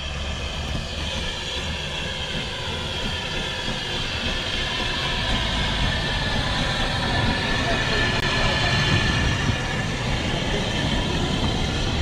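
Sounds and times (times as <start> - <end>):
steam locomotive running: 0.0 - 12.0.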